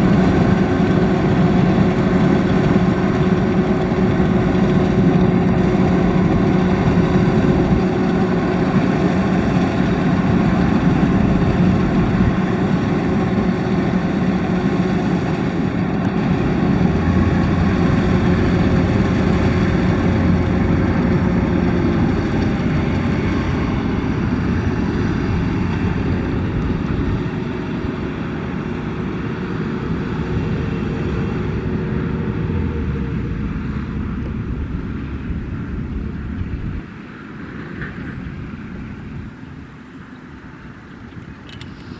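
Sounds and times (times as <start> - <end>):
combine harvester diesel engine running: 0.0 - 41.9
threshing machinery noise: 0.0 - 41.9.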